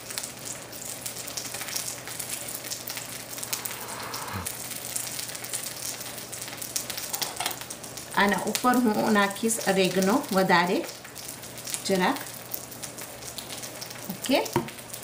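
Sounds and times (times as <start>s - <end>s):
oil sizzling in frying pan: 0.0s - 3.9s, 4.5s - 15.0s.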